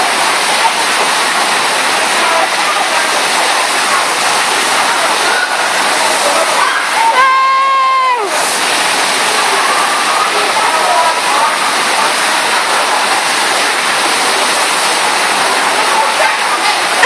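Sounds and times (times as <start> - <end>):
rushing water surging: 0.0 - 17.0.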